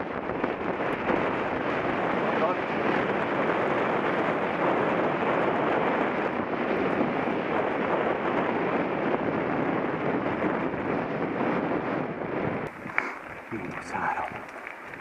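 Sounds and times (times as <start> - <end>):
wind rushing on microphone: 0.0 - 15.0.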